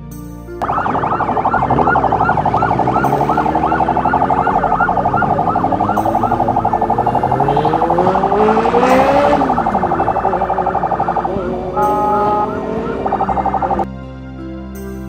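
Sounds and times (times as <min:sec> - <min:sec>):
fast-pulsing siren: 0:00.6 - 0:13.9
rising siren tone: 0:00.6 - 0:13.9
siren pitch sweeps: 0:00.6 - 0:13.9.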